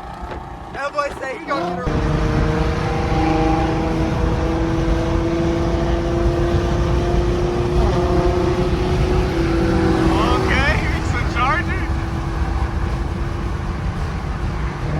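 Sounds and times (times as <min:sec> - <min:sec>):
low road rumble: 0:00.0 - 0:14.9.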